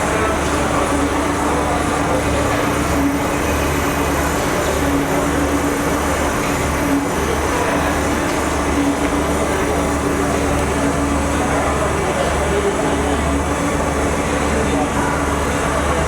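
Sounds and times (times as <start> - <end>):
intermittent machine tone: 0.0 - 16.0.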